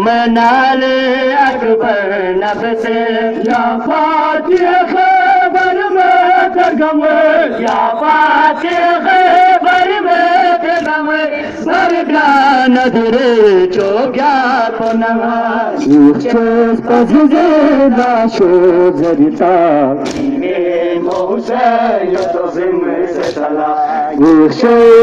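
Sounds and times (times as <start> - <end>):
men chanting a lament: 0.0 - 25.0.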